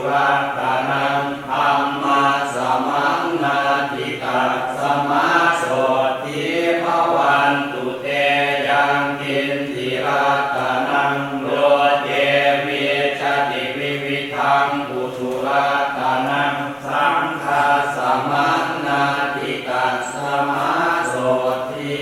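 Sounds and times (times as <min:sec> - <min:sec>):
monks chanting in unison: 0:00.0 - 0:22.0.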